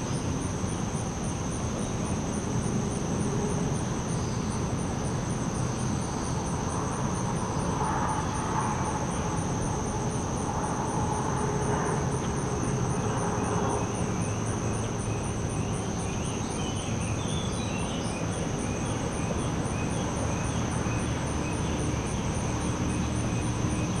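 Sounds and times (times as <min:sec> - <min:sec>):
crickets trilling: 0:00.0 - 0:24.0
pulsed cricket chirp: 0:00.0 - 0:24.0.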